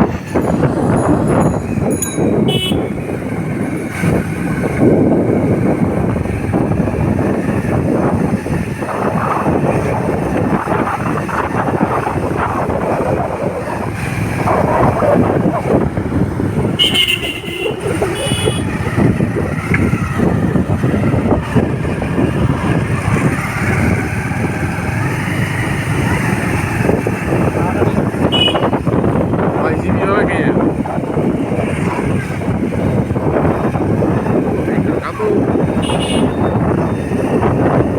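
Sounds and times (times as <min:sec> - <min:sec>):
vehicle and road noise: 0:00.0 - 0:37.9
wind buffeting microphone: 0:00.0 - 0:37.9.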